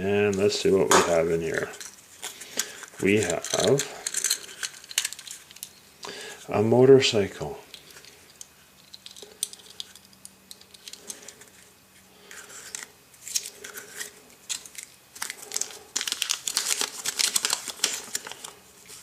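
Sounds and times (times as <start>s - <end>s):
wrapping crinkling and rustling: 0.2s - 5.9s, 7.7s - 19.0s.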